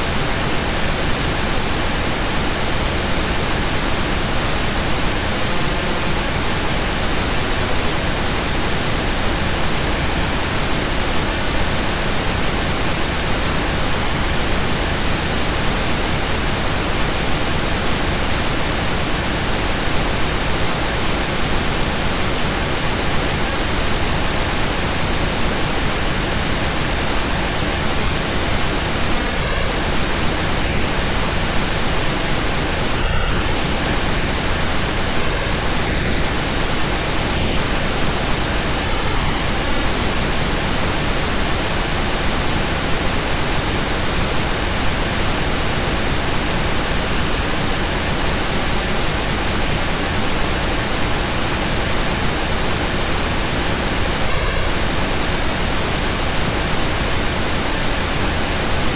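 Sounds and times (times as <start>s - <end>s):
steady hiss of noise: 0.0s - 58.9s.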